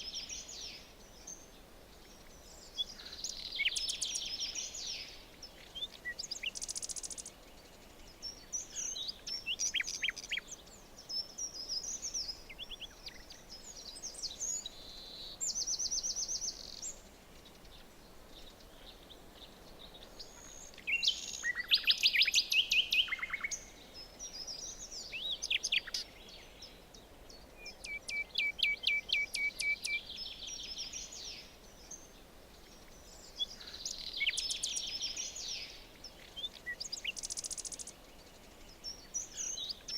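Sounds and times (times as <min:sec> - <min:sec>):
faint background hiss: 0:00.0 - 0:39.9
forest birds singing: 0:00.0 - 0:39.9.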